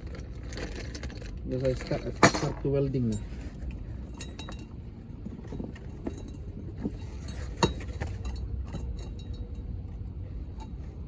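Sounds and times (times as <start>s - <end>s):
metal tools clinking: 0.0s - 9.7s.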